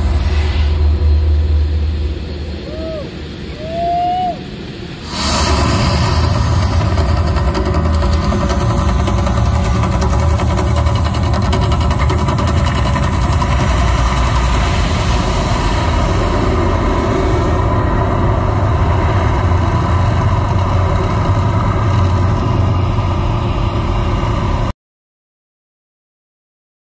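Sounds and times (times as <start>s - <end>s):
roar of gas flames: 0.0s - 24.7s
low rumble: 0.0s - 24.8s.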